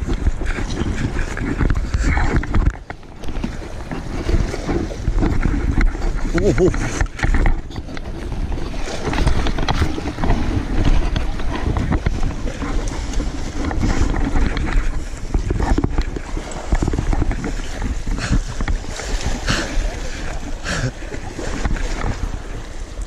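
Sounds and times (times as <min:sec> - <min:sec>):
water splashing against rocks: 0:00.0 - 0:23.0
wind buffeting microphone: 0:00.0 - 0:23.0.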